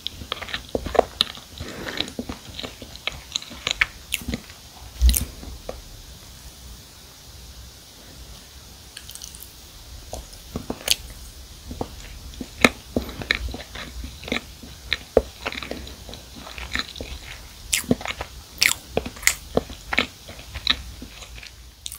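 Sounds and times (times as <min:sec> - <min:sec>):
chewing with mouth clicks: 0:00.0 - 0:05.8, 0:10.1 - 0:21.9.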